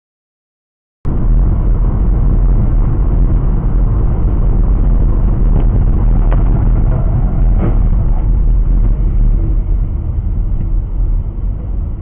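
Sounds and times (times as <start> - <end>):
road and engine rumble in car: 1.1 - 12.0.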